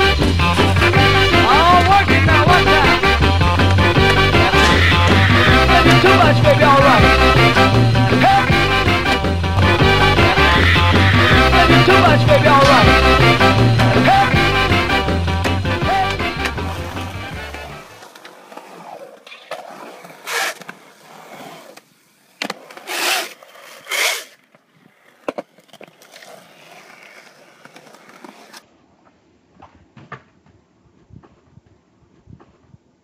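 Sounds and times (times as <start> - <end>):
skateboard wheels on concrete: 0.0 - 33.0.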